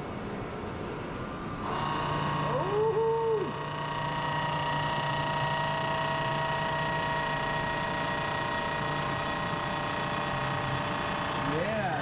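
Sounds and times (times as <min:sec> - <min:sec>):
mill cutting metal whine: 0:01.3 - 0:12.0.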